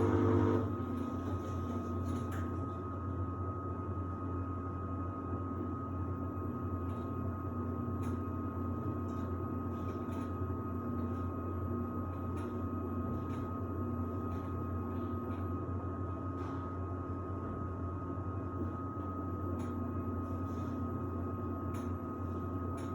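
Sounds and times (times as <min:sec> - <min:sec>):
washer-dryer humming: 0:00.0 - 0:22.9.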